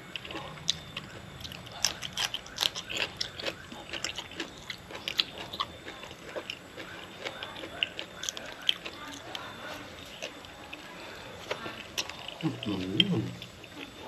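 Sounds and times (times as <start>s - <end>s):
person chewing crunchy vegetable: 0.0s - 14.0s.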